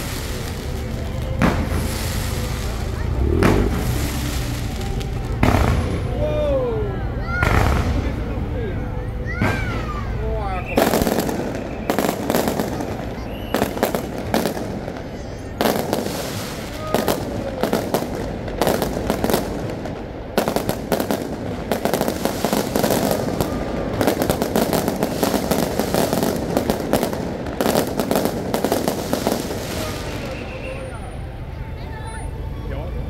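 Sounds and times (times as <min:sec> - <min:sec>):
fireworks bangs and crackles: 0:00.0 - 0:31.2.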